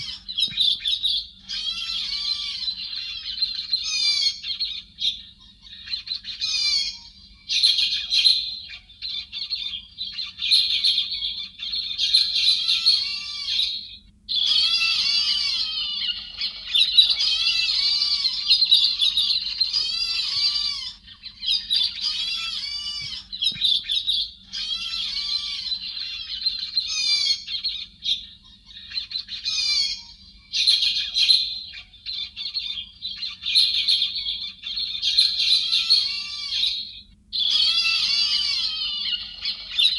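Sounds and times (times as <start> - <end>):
faint low hum: 0.0 - 39.9
thrushes chirping: 0.0 - 39.9.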